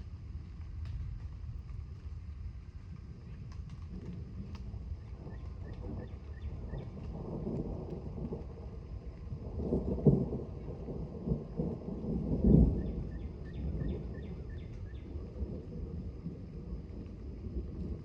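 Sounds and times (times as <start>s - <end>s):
distant thunder rolling: 0.0s - 18.0s.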